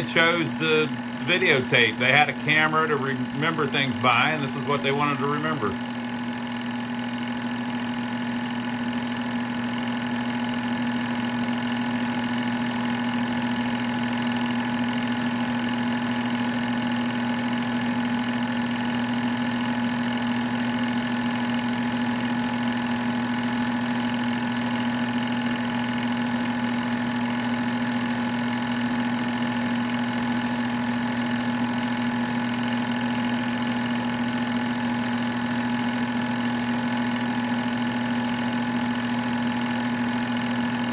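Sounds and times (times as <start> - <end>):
projector motor humming: 0.0 - 40.9.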